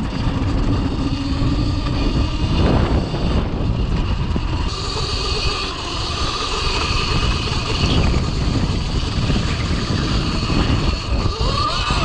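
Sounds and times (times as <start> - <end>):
electric motor whine: 0.0 - 12.0
low rumble: 0.0 - 12.0.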